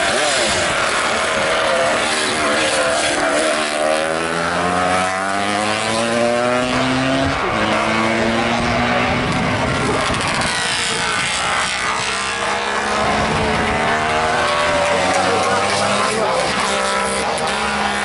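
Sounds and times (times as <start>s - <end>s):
motorcycle engines at full throttle: 0.0s - 18.0s.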